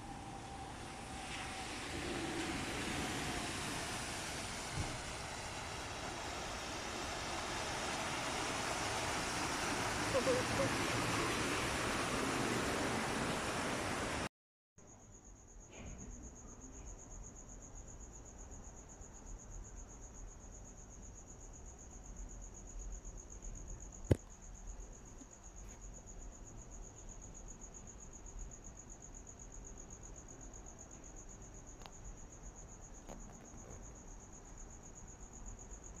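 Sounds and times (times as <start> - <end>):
crickets trilling: 0.0 - 14.2, 14.9 - 36.0.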